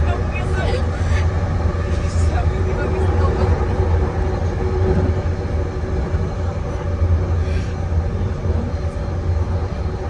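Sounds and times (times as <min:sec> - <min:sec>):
train hum: 0:00.0 - 0:10.0
train low rumble: 0:00.0 - 0:10.0.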